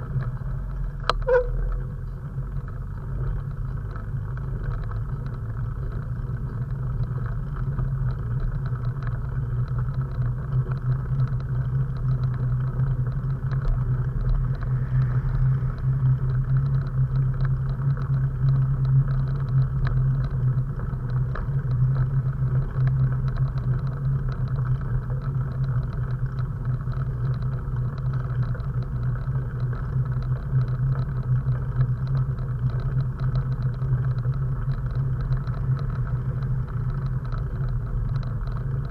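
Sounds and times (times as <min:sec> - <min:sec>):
wind and road rumble: 0:00.0 - 0:38.9.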